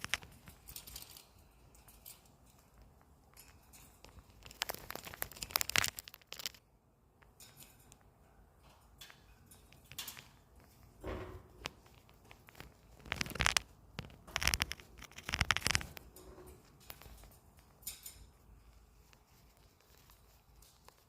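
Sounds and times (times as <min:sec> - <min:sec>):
rustling and scratching: 0:00.0 - 0:06.6, 0:07.2 - 0:21.0.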